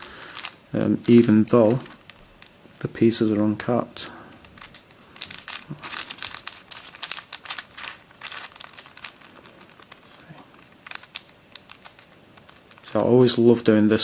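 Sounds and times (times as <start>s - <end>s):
plastic puzzle clicks and rattles: 0.0s - 2.6s, 4.3s - 13.4s.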